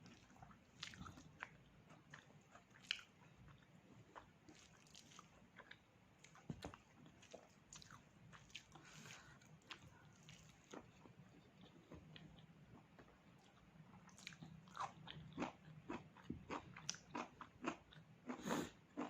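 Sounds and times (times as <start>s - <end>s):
person chewing: 0.1s - 19.0s.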